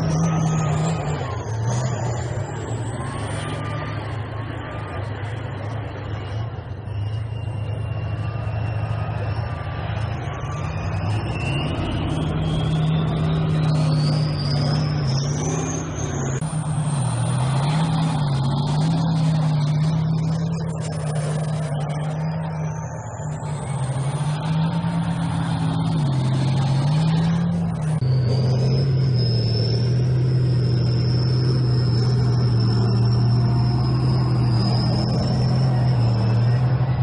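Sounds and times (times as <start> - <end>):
high engine whine: 0.0 - 37.0
tank engines droning: 0.0 - 37.0.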